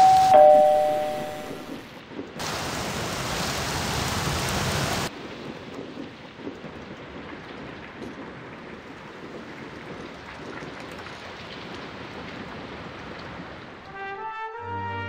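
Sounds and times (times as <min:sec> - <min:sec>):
rain falling: 0:00.0 - 0:14.6.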